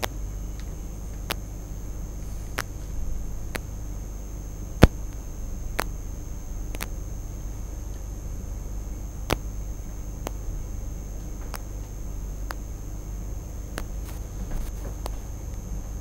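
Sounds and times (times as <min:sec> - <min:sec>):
sharp clicks: 0:00.0 - 0:03.9, 0:04.6 - 0:07.2, 0:09.2 - 0:15.6
high-pitched whine: 0:00.0 - 0:16.0
steady low hum: 0:00.0 - 0:16.0.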